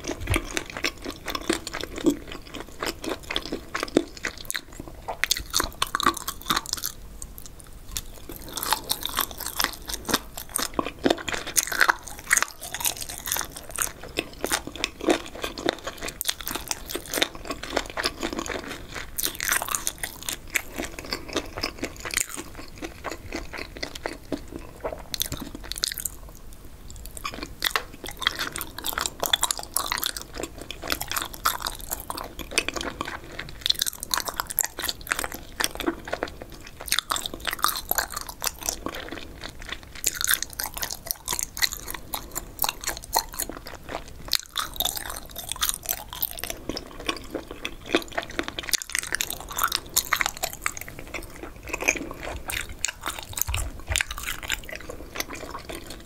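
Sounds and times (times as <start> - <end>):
wet crunchy chewing: 0.0 - 26.3, 26.9 - 56.0.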